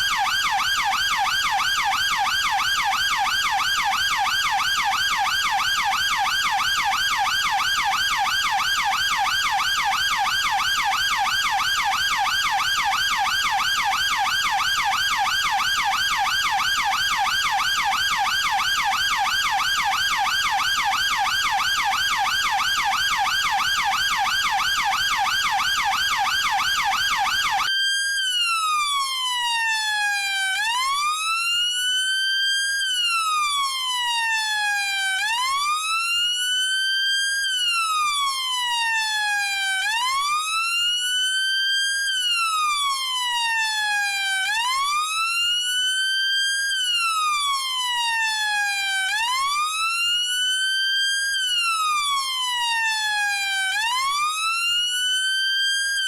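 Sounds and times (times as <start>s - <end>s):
police siren: 0.0s - 56.0s.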